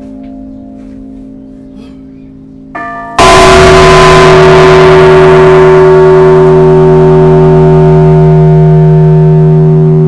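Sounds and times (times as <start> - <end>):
large church bell ringing: 0.0 - 10.0.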